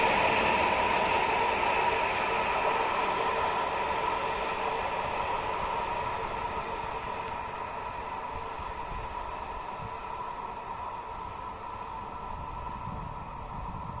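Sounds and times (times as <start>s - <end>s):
train rail rumble: 0.0s - 14.0s.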